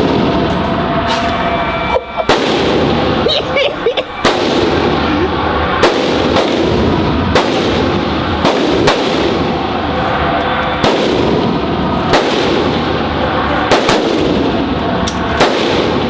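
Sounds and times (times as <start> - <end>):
gunshots indoors: 0.0 - 16.0
loud background din: 0.0 - 16.0.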